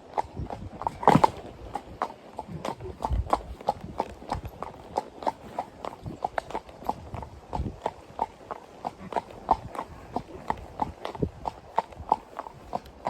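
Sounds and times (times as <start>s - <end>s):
horse hooves clip-clopping on road: 0.0s - 13.0s.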